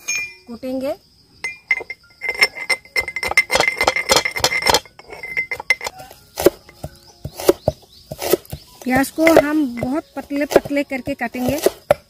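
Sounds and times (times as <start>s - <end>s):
metal pestle pounding in steel mortar: 1.8s - 12.0s.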